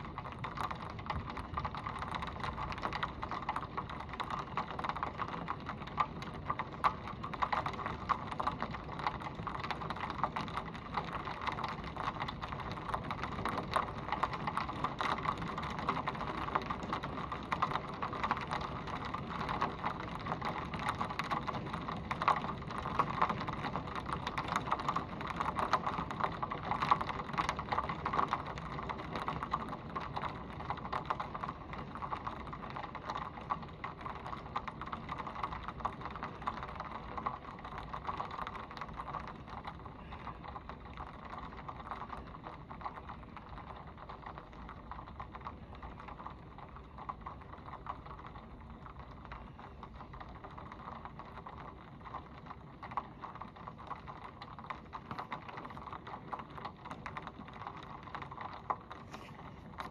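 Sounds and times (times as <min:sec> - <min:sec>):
close rain drop strikes: 0:00.0 - 0:59.9
heavy rain pouring: 0:00.0 - 0:59.9.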